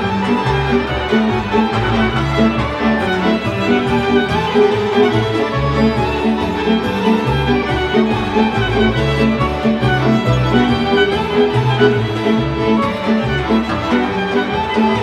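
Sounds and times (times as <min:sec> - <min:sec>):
violins playing melody: 0:00.0 - 0:15.0.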